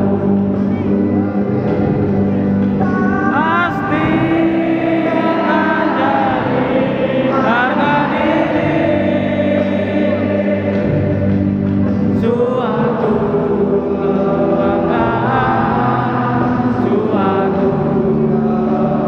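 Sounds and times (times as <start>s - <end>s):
many voices singing in chorus: 0.0s - 19.0s.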